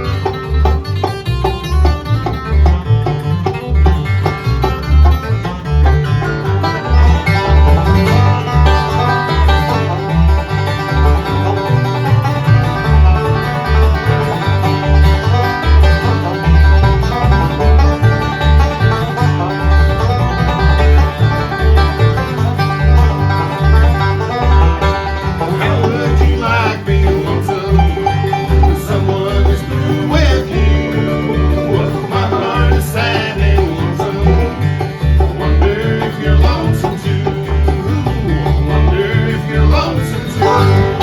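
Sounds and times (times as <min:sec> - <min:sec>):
banjo picking: 0:00.0 - 0:41.0
bass beat: 0:00.0 - 0:41.0
guitar: 0:00.0 - 0:41.0.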